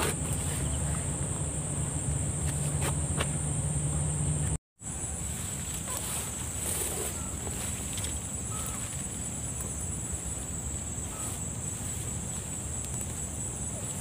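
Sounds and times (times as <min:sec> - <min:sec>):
insects chirping: 0:00.0 - 0:14.0
low steady hum: 0:00.0 - 0:14.0.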